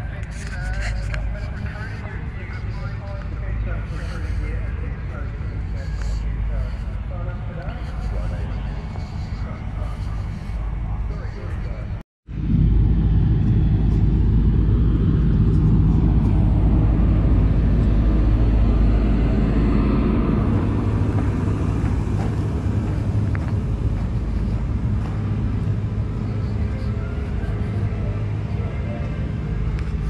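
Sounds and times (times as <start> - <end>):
diesel generator running: 0.0 - 30.0.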